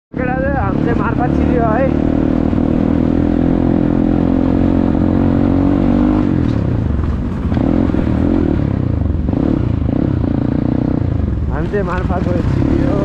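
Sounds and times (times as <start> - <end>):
dirt bike engine running: 0.2 - 13.0.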